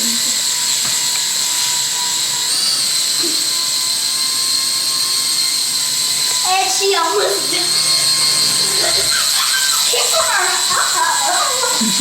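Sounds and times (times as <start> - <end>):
toy propeller whirring whine: 0.0 - 12.0.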